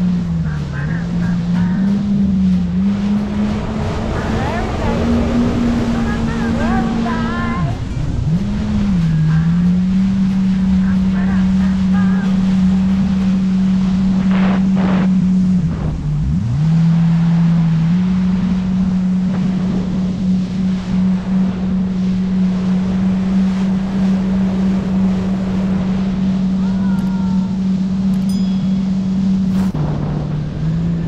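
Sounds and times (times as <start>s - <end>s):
jet ski engine running: 0.0s - 31.0s
rushing water: 0.0s - 31.0s
wind on microphone: 0.0s - 31.0s.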